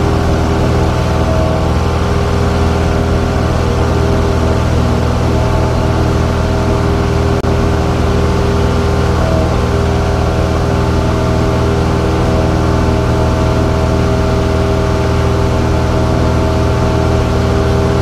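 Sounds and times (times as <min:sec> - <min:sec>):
light aircraft engine drone: 0:00.0 - 0:18.0.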